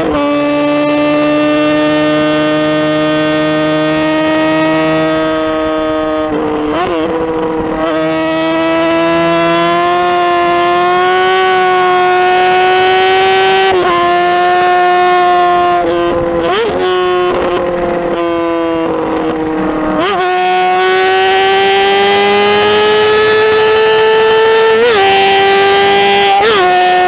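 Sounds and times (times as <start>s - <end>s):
motorcycle engine at high revs: 0.0s - 27.0s.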